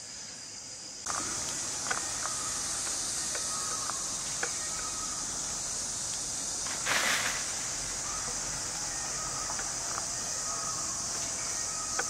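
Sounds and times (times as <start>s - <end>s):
insects chorus: 0.0s - 12.0s
rushing hiss: 0.0s - 12.0s.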